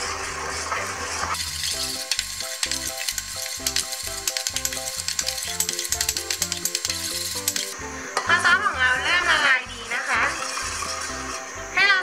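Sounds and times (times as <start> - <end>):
metal utensil scraping wok: 0.0 - 8.3, 10.0 - 11.5
sauce sizzling in a wok: 0.0 - 12.0
background music melody: 1.4 - 12.0.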